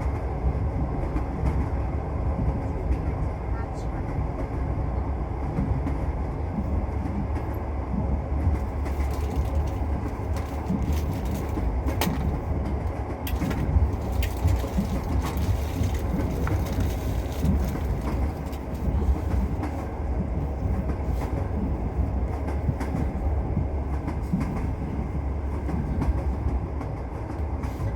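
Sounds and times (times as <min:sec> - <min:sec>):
train wheels rumbling: 0:00.0 - 0:27.9.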